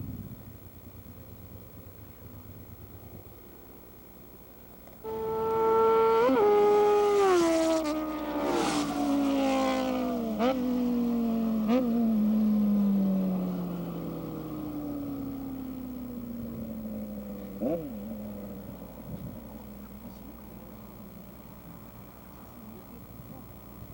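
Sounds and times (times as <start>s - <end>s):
motorcycle engine at full throttle: 0.0s - 23.9s.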